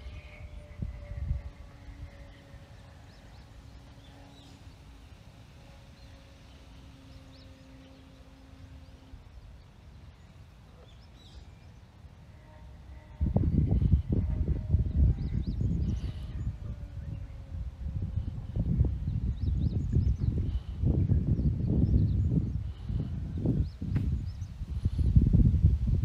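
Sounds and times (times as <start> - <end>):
distant electric aircraft hum: 0.0 - 26.0
low wind rumble: 0.0 - 26.0.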